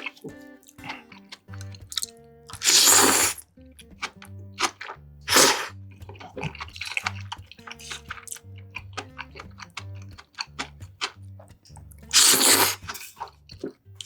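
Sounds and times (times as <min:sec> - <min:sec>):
background music with bass: 0:00.0 - 0:14.0
wet squishy chewing: 0:00.0 - 0:14.0.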